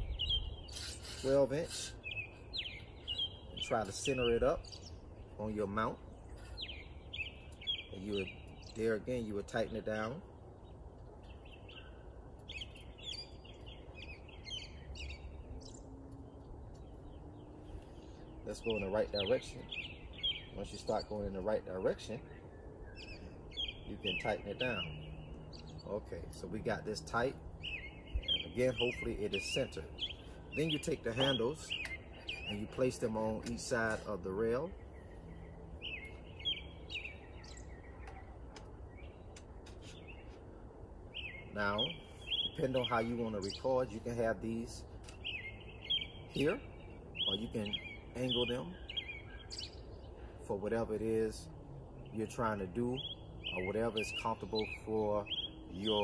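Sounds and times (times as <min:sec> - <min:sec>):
birds chirping: 0:00.0 - 0:56.0
steady low background hum: 0:00.0 - 0:56.0.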